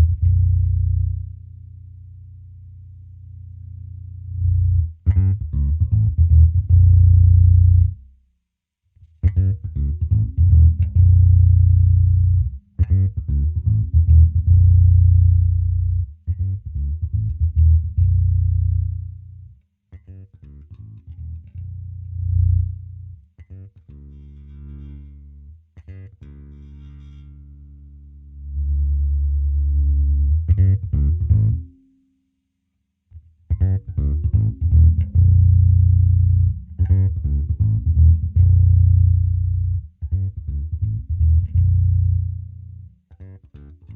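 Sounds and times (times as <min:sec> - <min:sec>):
electric bass guitar plucked notes: 0:00.0 - 0:08.1, 0:09.0 - 0:31.8, 0:33.1 - 0:43.9.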